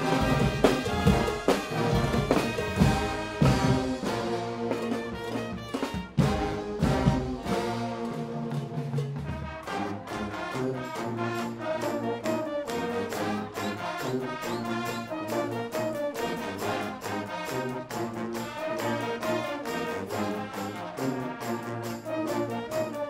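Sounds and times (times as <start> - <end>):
brass band playing: 0.0 - 23.0.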